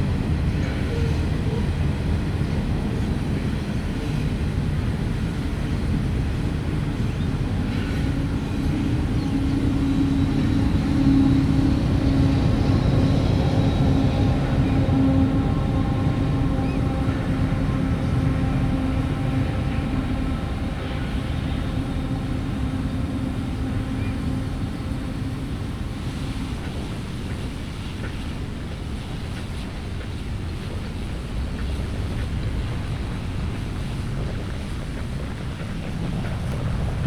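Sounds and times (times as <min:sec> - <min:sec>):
railway rumble: 0:00.0 - 0:37.0
engine hum: 0:06.1 - 0:37.0.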